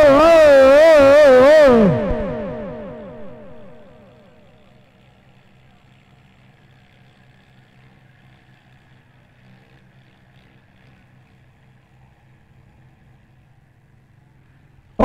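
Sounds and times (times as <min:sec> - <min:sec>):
tractor diesel engine drone: 0:00.0 - 0:15.0.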